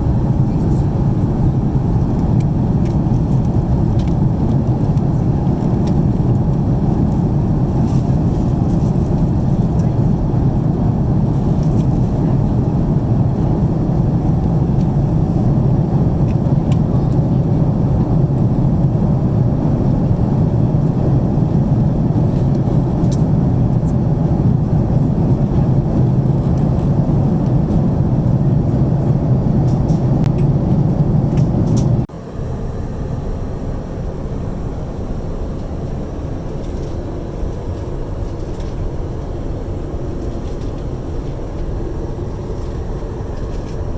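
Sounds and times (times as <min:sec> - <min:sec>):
airplane cabin engine roar: 0:00.0 - 0:43.9.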